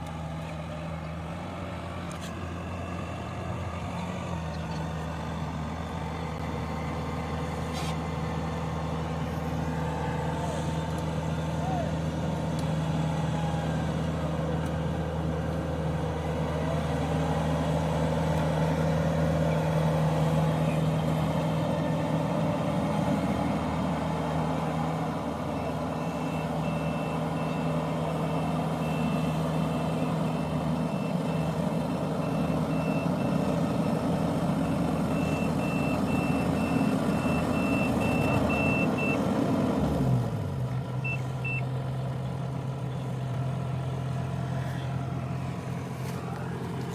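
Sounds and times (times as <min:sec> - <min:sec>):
diesel machinery running: 0:00.0 - 0:46.9.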